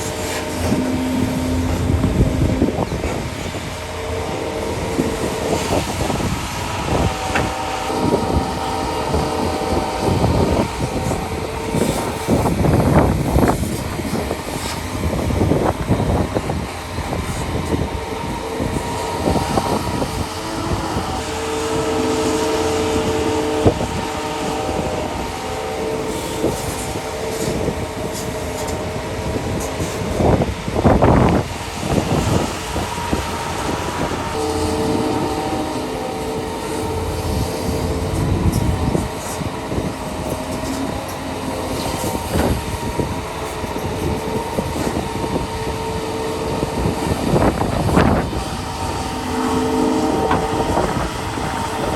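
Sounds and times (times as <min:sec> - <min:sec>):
diesel engine running: 0:00.0 - 0:51.9
hydraulic whine: 0:00.0 - 0:51.9
machinery clanks and knocks: 0:00.0 - 0:51.9.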